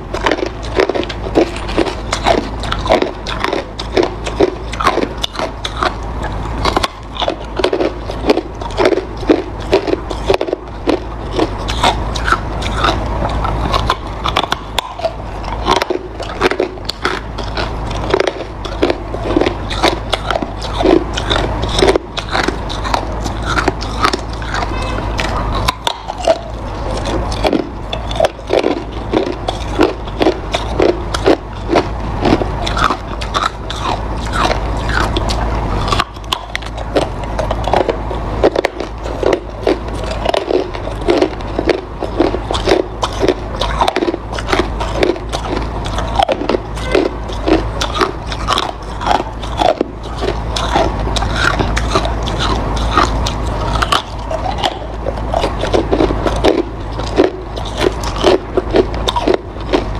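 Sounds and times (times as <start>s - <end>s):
ice crunched between teeth: 0.0s - 59.9s.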